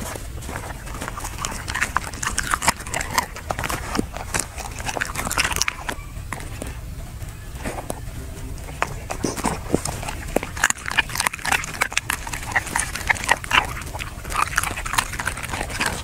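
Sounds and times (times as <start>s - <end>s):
dog chewing and crunching food: 0.0s - 16.0s.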